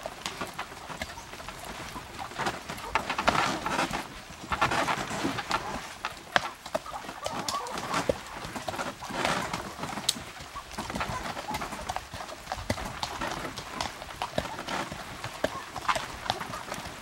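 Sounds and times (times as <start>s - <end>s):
cart and harness rattling: 0.0s - 17.0s
horse hoofbeats on dirt: 0.0s - 17.0s.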